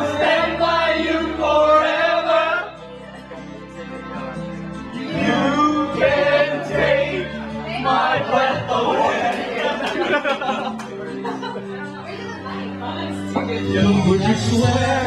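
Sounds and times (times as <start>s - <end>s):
backing track: 0.0s - 15.0s
karaoke singing into microphone: 0.0s - 15.0s.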